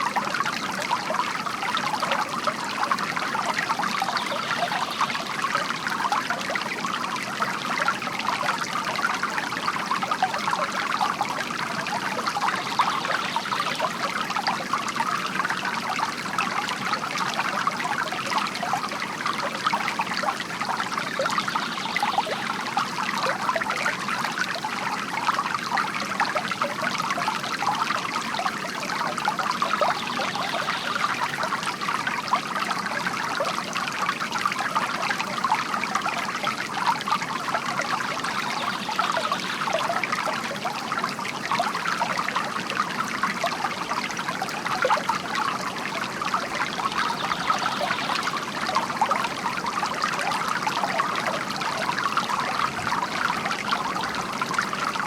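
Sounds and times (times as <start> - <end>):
water trickling from bamboo fountain: 0.0 - 55.0.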